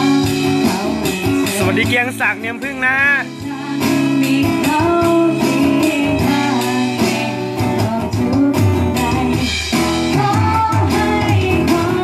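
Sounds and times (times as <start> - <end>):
guitar: 0.0 - 12.0
person singing: 0.0 - 12.0.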